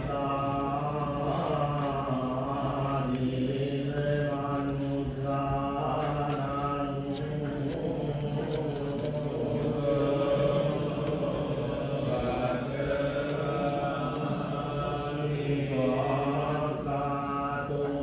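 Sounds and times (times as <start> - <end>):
voices chanting slowly: 0.0 - 18.0.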